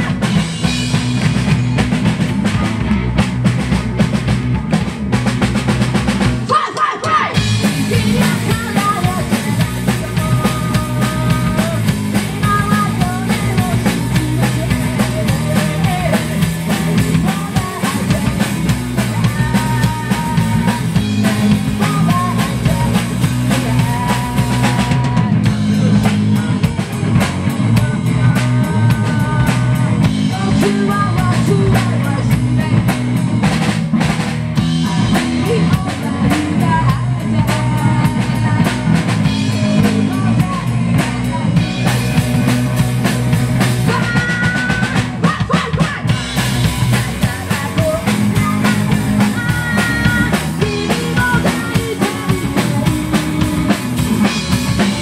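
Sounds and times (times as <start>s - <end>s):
electric guitar: 0.0s - 6.5s, 7.1s - 55.0s
drum kit: 0.0s - 55.0s
electric bass: 0.0s - 55.0s
woman singing: 6.5s - 33.2s, 34.7s - 55.0s.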